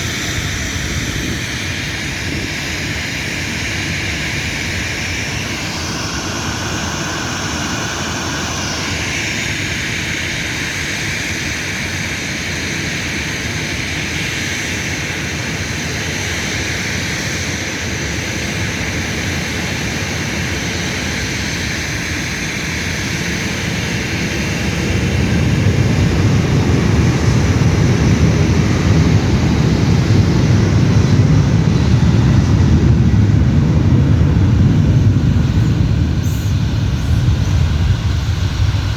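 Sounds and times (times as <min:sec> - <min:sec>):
deep jet engine rumble: 0:00.0 - 0:38.9
jet engines whining: 0:00.0 - 0:38.9.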